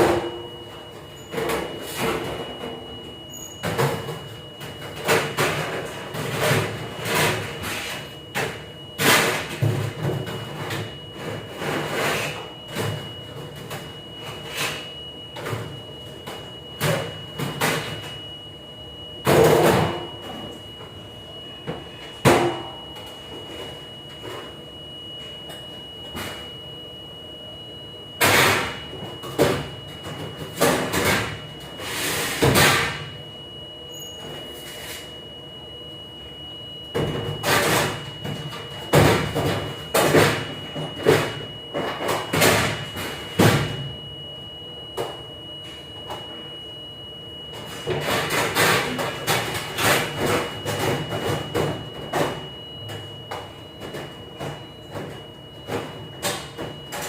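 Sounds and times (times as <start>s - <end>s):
machinery running with high whine: 0.0s - 57.0s.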